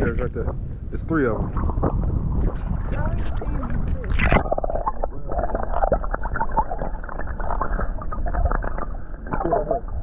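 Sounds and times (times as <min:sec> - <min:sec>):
bubbling and gurgling underwater: 0:00.0 - 0:10.0
underwater rumble: 0:00.0 - 0:10.0.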